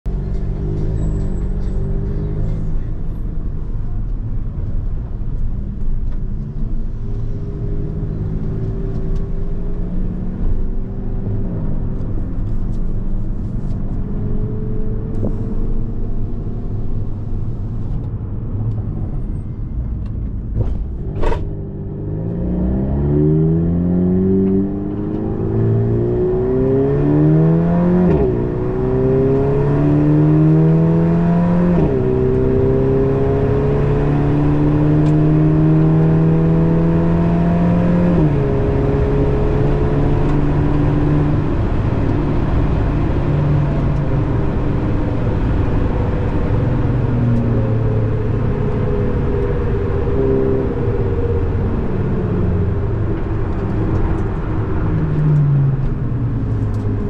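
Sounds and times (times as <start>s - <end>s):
road and tyre rumble: 0.0s - 57.0s
car engine accelerating: 0.1s - 57.0s.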